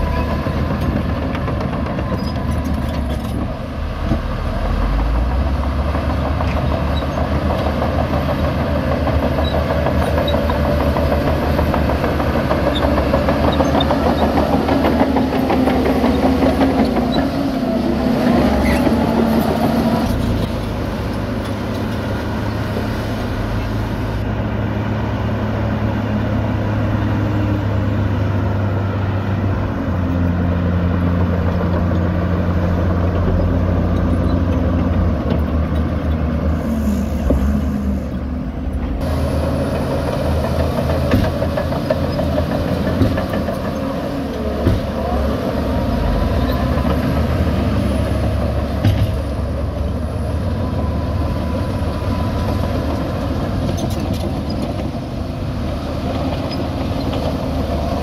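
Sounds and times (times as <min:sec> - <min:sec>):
bulldozer pushing soil: 0:00.0 - 0:58.0
dump truck unloading: 0:00.0 - 0:58.0
excavator diesel engine: 0:00.0 - 0:58.0.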